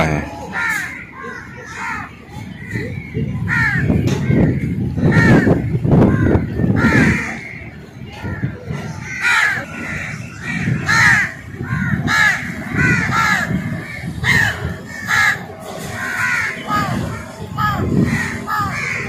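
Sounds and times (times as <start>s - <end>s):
crows cawing: 0.1s - 2.1s, 3.5s - 7.6s, 8.3s - 19.0s.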